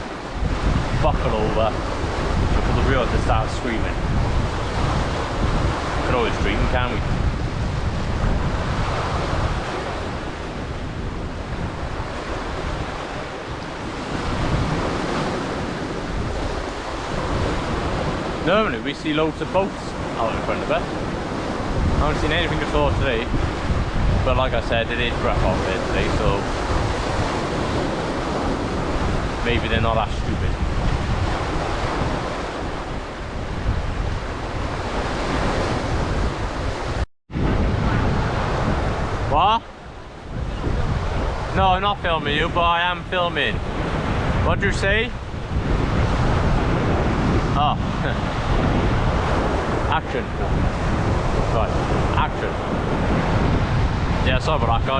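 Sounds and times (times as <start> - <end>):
surf washing onto shore: 0.0 - 54.9
wind gusting on microphone: 0.0 - 54.9.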